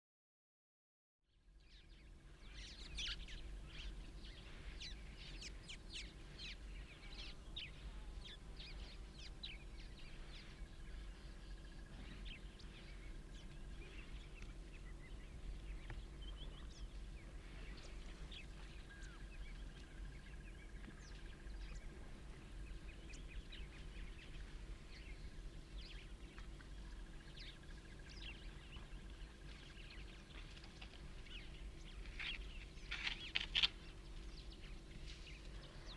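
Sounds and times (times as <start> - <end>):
faint low hum: 1.3 - 35.9
small birds chirping: 1.6 - 35.9.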